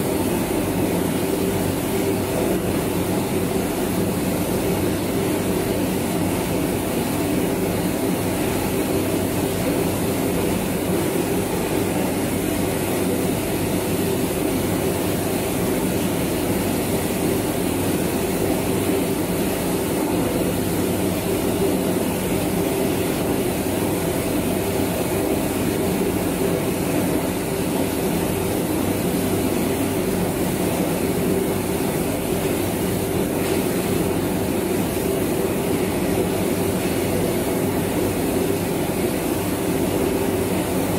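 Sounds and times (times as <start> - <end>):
rice milling machine humming: 0.0 - 40.9.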